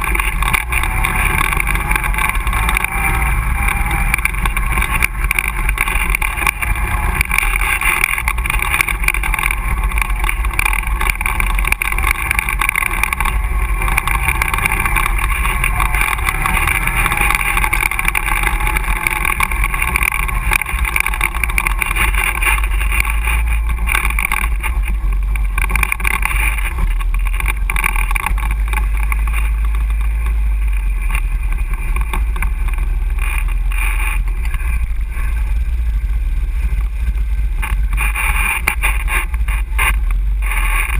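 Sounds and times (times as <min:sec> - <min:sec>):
atv engine droning: 0:00.0 - 0:40.9.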